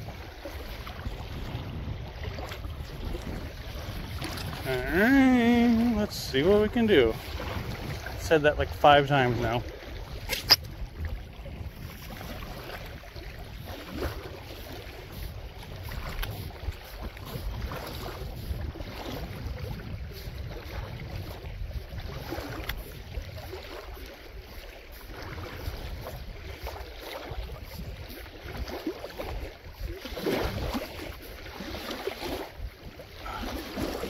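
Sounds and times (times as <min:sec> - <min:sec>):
river water washing: 0:00.0 - 0:34.0
wind buffeting microphone: 0:00.0 - 0:34.0.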